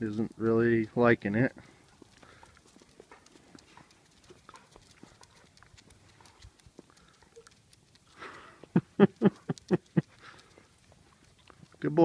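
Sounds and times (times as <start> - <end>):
animal footsteps clicking: 0.0 - 12.0
soft rustle: 0.0 - 12.0.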